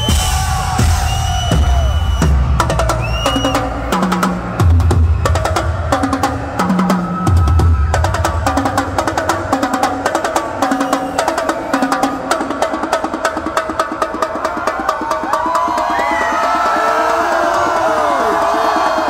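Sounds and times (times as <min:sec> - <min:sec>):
fast drumming with sticks: 0:00.0 - 0:19.0.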